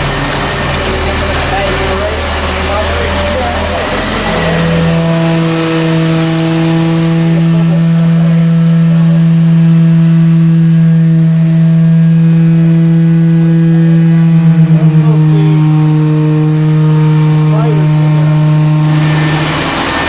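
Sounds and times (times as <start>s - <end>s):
deep rumble: 0.0s - 20.0s
machinery humming: 0.0s - 20.0s.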